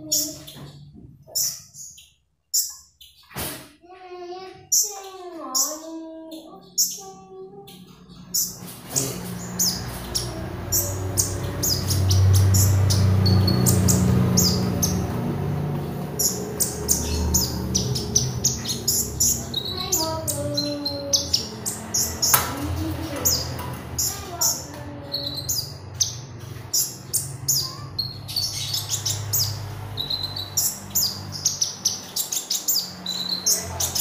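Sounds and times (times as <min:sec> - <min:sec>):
sunbird chirping: 0:04.8 - 0:34.0.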